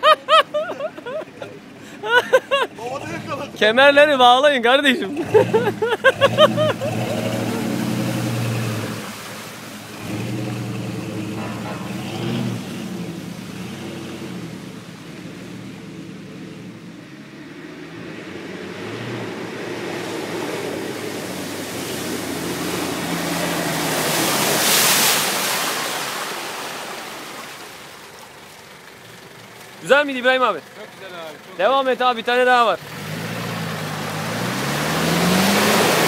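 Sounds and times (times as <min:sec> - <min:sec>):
another vehicle engine: 0:00.0 - 0:24.8, 0:27.2 - 0:36.0
off-road vehicle engine: 0:00.0 - 0:36.0
tyres churning through mud: 0:00.0 - 0:36.0.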